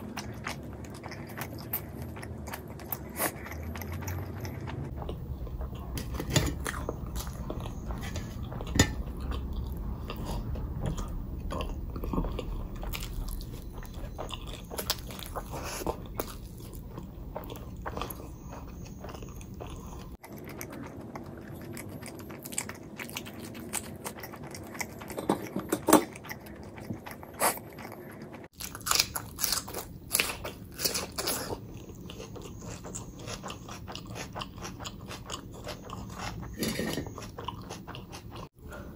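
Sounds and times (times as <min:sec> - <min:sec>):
person chewing and crunching: 0:00.0 - 0:38.8.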